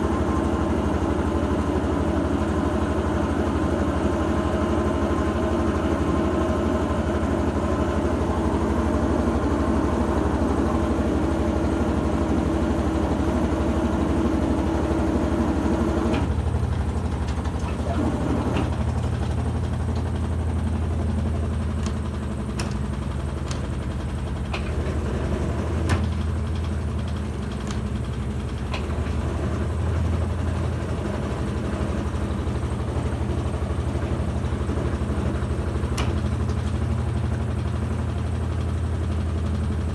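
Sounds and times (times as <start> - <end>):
washing machine motor hum: 0.1 - 39.9.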